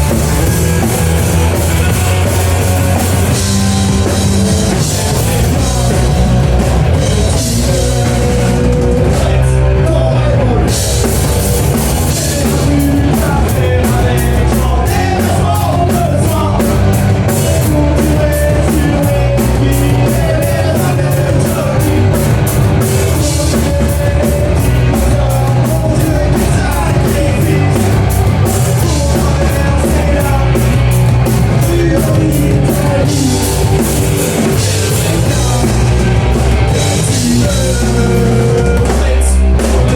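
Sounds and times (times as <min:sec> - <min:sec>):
person singing: 0:00.0 - 0:39.9
rock band playing live: 0:00.0 - 0:39.9.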